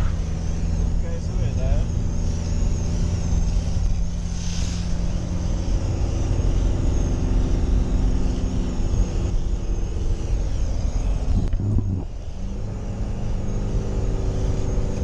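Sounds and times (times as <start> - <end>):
road and wind noise: 0.0 - 15.0
van engine drone: 0.0 - 15.0.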